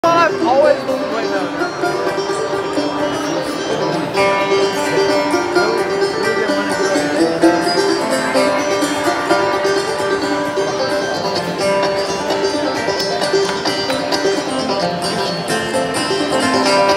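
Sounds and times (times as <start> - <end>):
banjo and acoustic guitar playing: 0.0 - 16.9.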